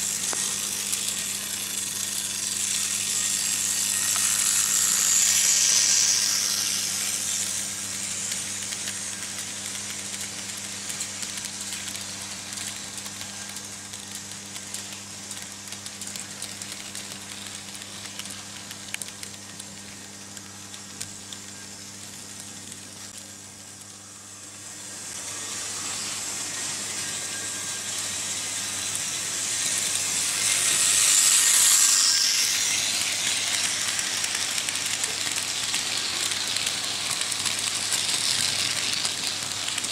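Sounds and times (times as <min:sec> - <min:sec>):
model train wheels rattling: 0:00.0 - 0:23.2, 0:25.1 - 0:39.9.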